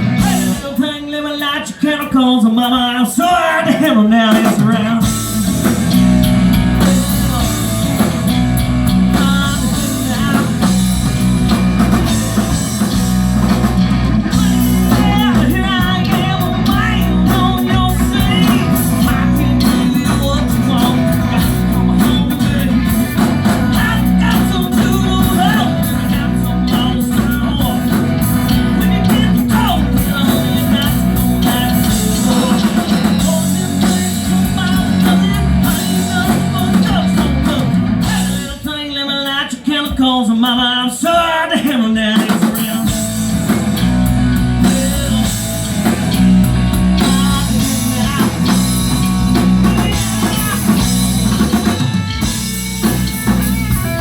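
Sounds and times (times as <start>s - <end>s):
live rock band playing: 0.0s - 2.9s, 3.7s - 54.0s
person singing: 0.0s - 5.3s, 5.9s - 12.9s, 14.3s - 43.3s, 44.2s - 54.0s.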